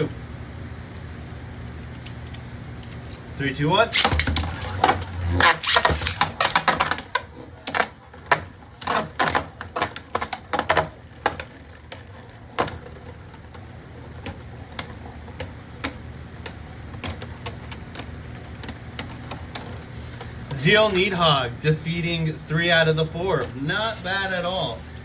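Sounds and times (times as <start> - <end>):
spinning tops clicking and knocking: 2.0 - 25.0.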